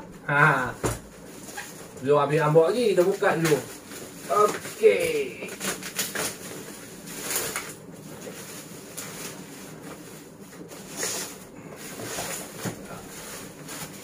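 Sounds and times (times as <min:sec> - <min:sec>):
bubble wrap rustling and crinkling: 0:00.1 - 0:14.0.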